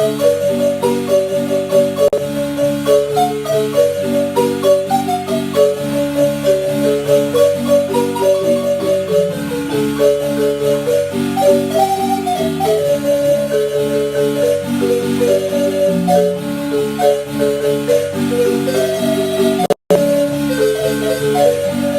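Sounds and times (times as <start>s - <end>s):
marimba music: 0.0s - 21.9s.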